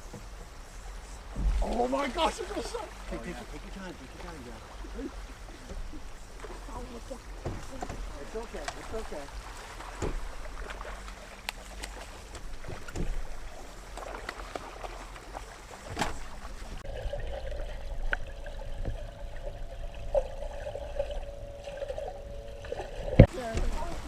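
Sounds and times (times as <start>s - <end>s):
water splashing and trickling: 0.0s - 24.0s
wavering hum: 4.0s - 24.0s.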